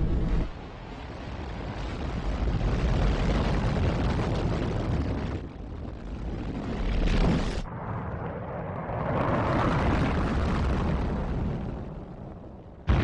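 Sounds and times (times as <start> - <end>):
rocket engines roaring: 0.0 - 3.3, 5.4 - 13.0.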